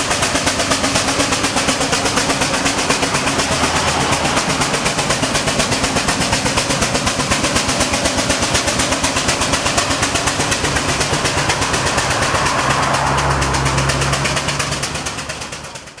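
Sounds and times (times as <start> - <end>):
low engine hum: 0.0 - 16.0
steam engine exhaust beats: 0.0 - 16.0.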